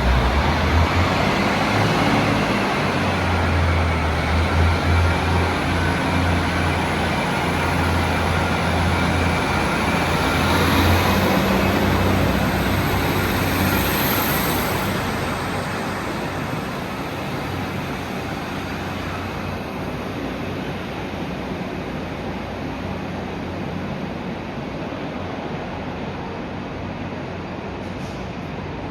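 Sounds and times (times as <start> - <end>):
train running: 0.0 - 28.9.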